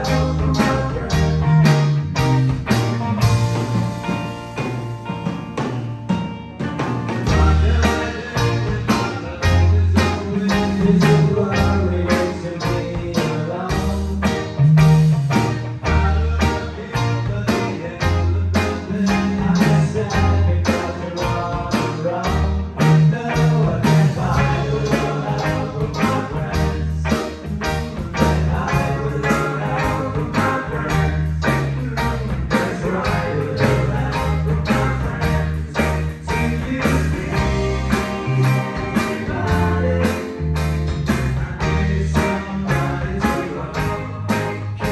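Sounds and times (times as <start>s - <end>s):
bass line: 0.0s - 44.9s
drums keeping a beat: 0.0s - 44.9s
guitar: 0.0s - 44.9s.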